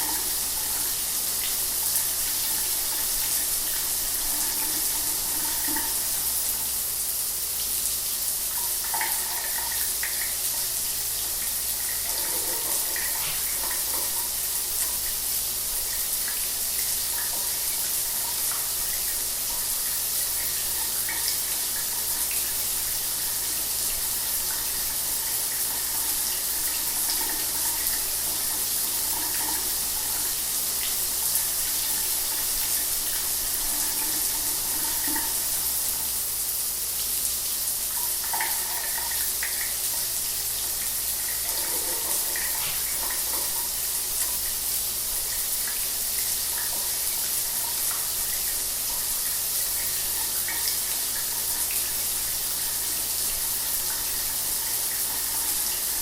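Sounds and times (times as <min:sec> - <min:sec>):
shower running: 0:00.0 - 0:56.0.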